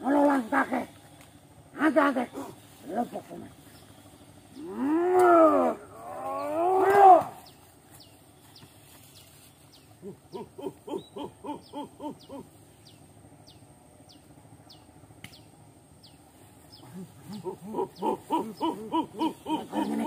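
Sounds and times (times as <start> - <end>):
hooting calls: 0.0 - 20.0.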